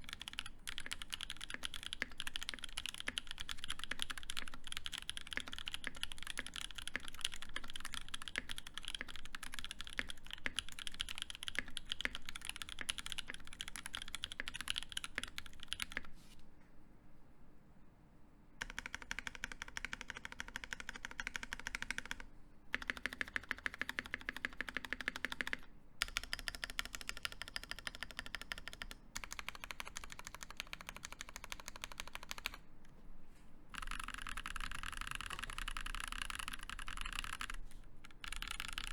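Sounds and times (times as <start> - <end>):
fast typing on mechanical keyboard: 0.0 - 16.1, 18.6 - 32.6, 33.7 - 38.9.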